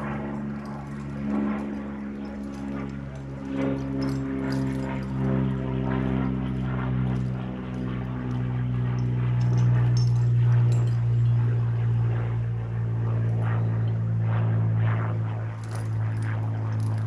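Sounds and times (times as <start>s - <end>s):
propeller aircraft flying over: 0.0s - 17.0s.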